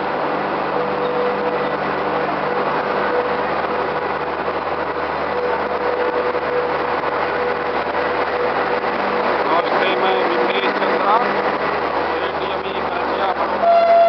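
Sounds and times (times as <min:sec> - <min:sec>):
steady tone: 0:00.0 - 0:14.0
train rumble and hum: 0:00.0 - 0:14.0.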